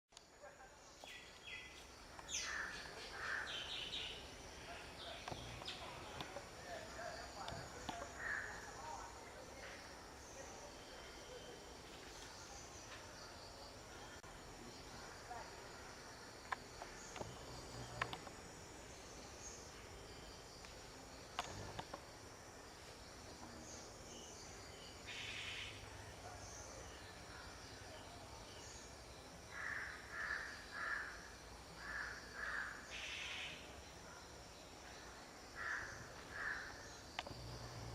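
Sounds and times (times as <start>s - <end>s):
insects chirring: 0.2s - 37.9s.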